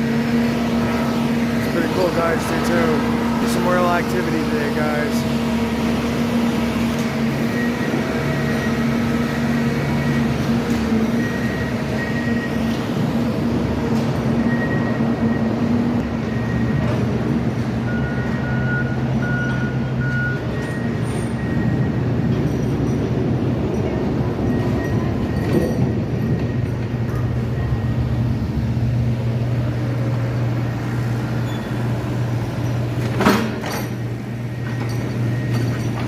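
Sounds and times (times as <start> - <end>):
rail machinery engine drone: 0.0 - 36.0.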